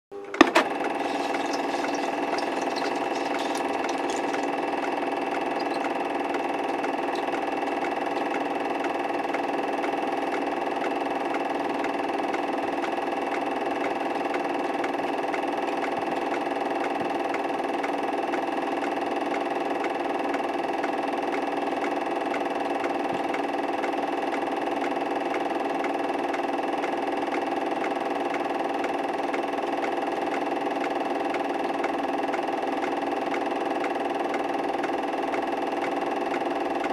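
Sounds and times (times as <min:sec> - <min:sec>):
steady mechanical hum: 0:00.1 - 0:36.9.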